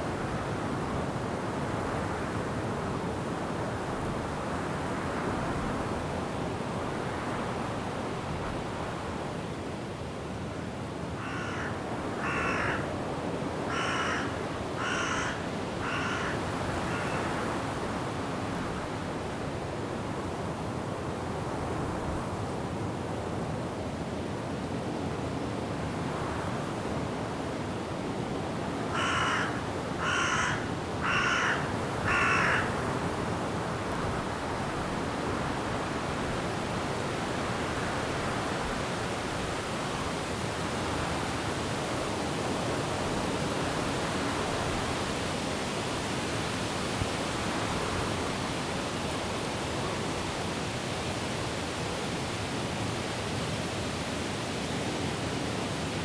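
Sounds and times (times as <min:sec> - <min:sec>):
wind in trees: 0:00.0 - 0:56.0.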